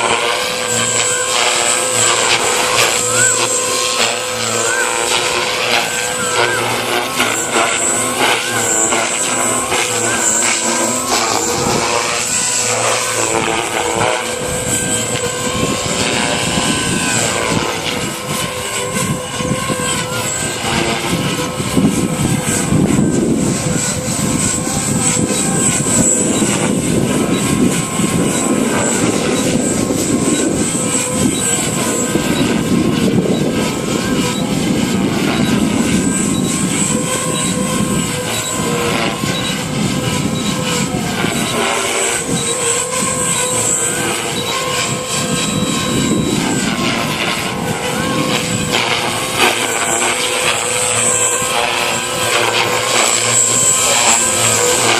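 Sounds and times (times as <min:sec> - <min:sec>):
helicopter motor whine: 0:00.0 - 0:54.9
rotor hum: 0:00.0 - 0:54.9.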